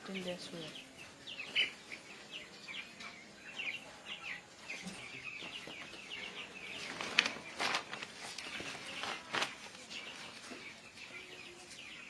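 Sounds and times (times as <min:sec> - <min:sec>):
chicks chirping: 0:00.0 - 0:12.0.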